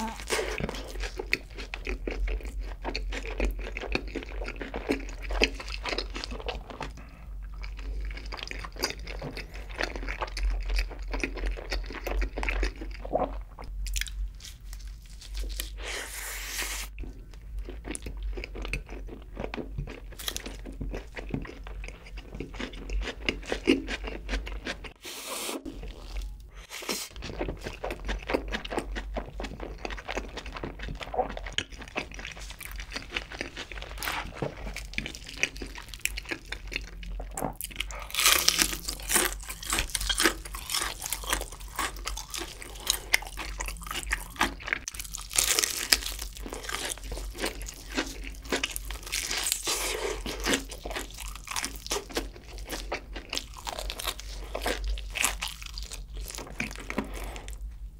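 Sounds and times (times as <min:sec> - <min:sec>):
crunchy chewing of fried chicken: 0:00.0 - 0:25.0, 0:25.6 - 0:57.8.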